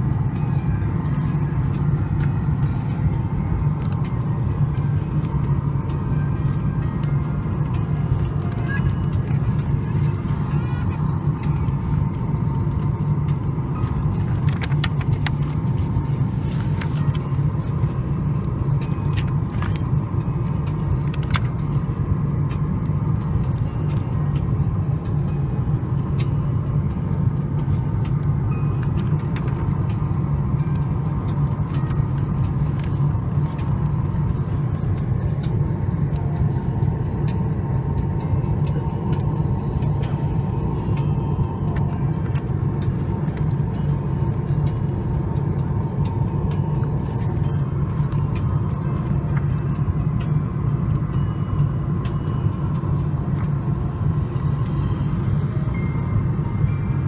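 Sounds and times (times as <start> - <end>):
airliner cabin rumble: 0.0 - 57.0
faint steady whine: 0.0 - 57.0.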